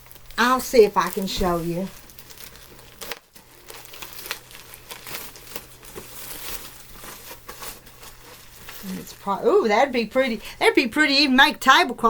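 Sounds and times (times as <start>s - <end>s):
packaging crinkling and rustling: 0.0s - 9.9s.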